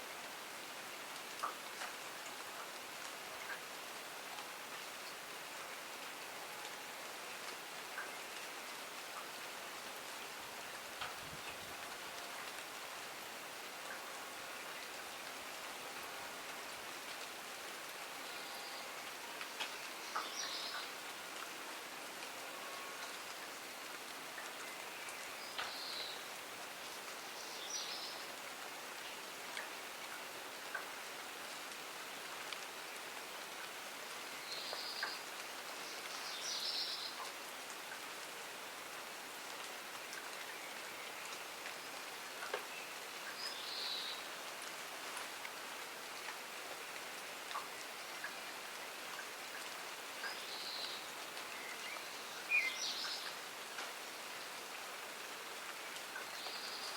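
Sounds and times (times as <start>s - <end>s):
raindrops dripping close by: 0.0s - 56.9s
steady rain falling: 0.0s - 56.9s.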